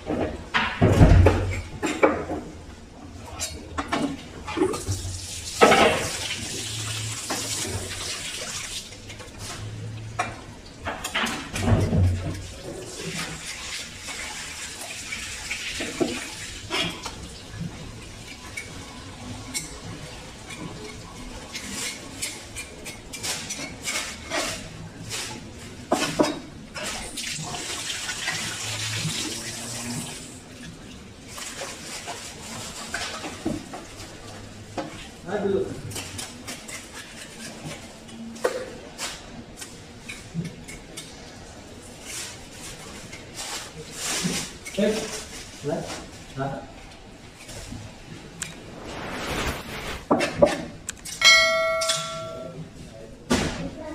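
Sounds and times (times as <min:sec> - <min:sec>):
hose water on tiled floor: 0:03.2 - 0:51.5.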